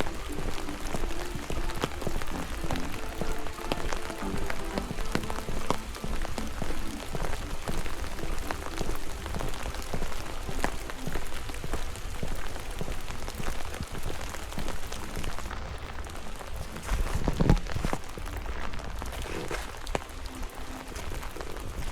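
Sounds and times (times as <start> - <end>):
rain hiss and rumble: 0.0 - 21.9
raindrops ticking on surface: 0.0 - 21.9.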